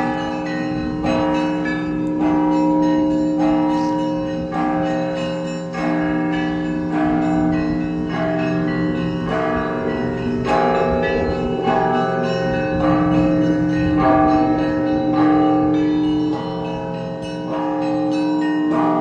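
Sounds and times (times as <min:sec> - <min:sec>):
deep bell tones: 0:00.0 - 0:19.0
small bells ringing rhythmically: 0:00.0 - 0:19.0.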